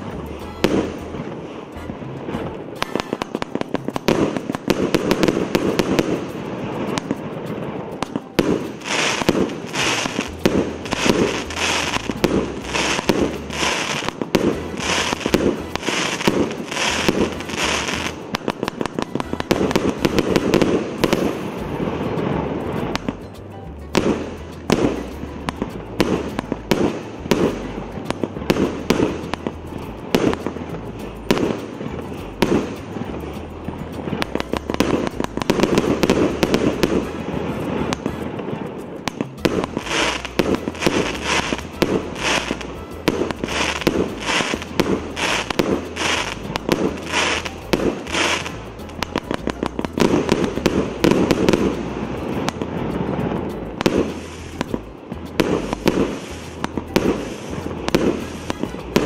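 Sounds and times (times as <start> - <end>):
fireworks launches and bursts: 0.0 - 59.0
sharp evenly spaced bangs: 0.0 - 59.0.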